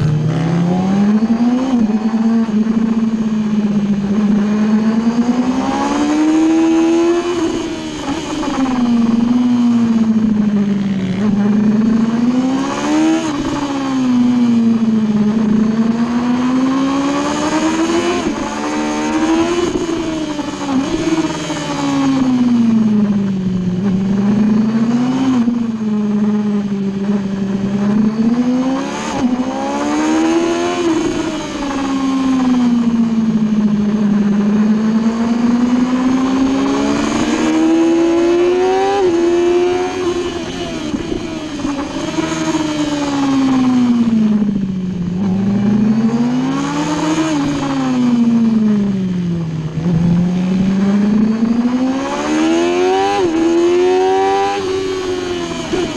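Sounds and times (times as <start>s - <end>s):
superbike engine revving: 0.0s - 55.9s.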